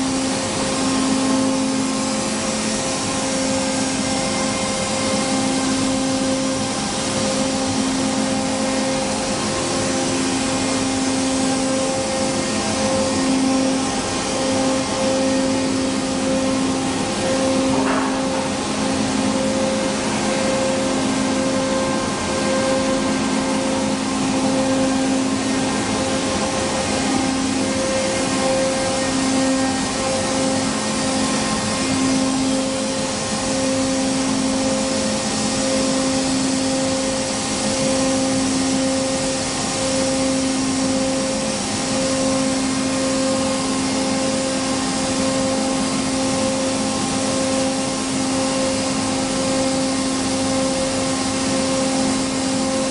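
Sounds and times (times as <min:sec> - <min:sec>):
router machine running: 0:00.0 - 0:52.9.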